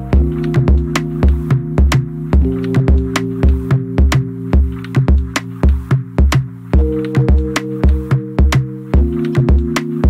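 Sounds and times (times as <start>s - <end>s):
drum beat: 0.0s - 10.0s
held synth chords: 0.0s - 10.0s.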